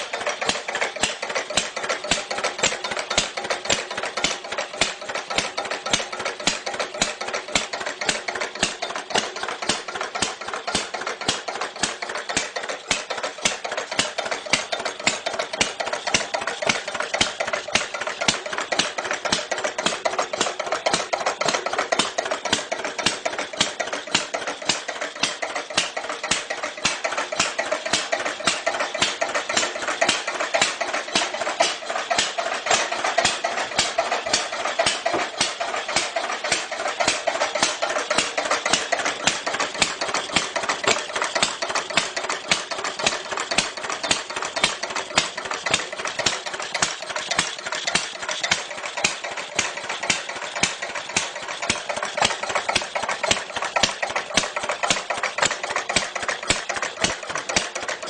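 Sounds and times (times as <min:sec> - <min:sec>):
old engine idling with clatter: 0:00.0 - 0:58.0.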